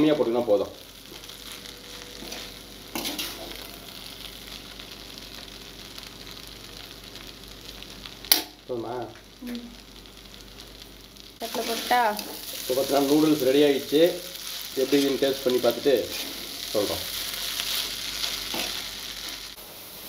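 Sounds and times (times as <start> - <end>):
noodles sizzling in a pan: 0.0 - 20.0.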